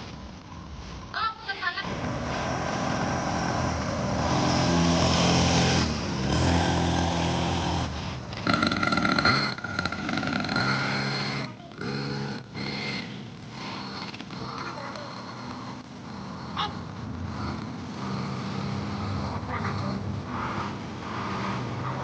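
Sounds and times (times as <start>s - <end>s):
dirt bike engine revving: 1.9s - 21.9s.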